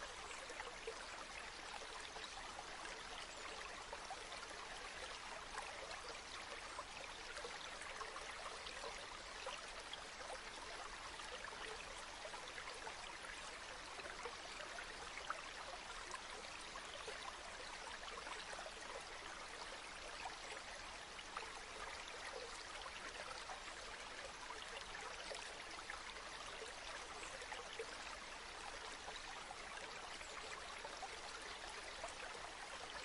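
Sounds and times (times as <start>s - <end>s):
stream water babbling: 0.0s - 33.0s.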